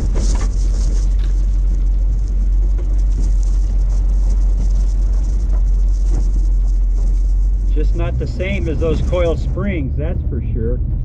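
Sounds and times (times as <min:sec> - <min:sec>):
car road noise inside cabin: 0:00.0 - 0:11.0.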